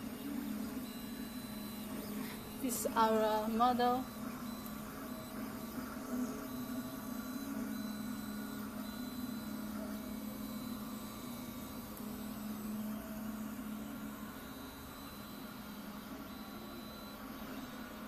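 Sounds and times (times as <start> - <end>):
printer motors and fans whirring: 0.0 - 18.0.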